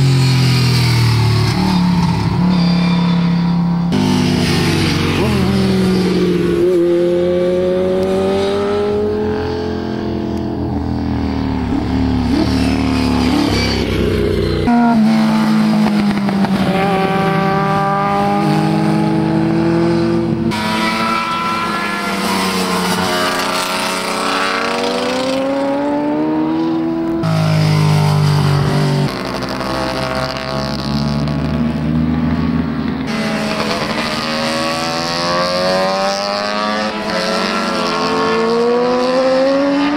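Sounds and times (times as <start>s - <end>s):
motorcycle engines revving past: 0.0s - 39.9s.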